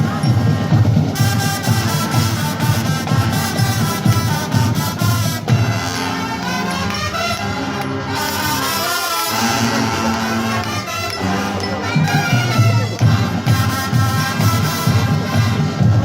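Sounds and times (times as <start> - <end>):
drums: 0.0 - 16.0
marching brass band playing: 0.0 - 16.0.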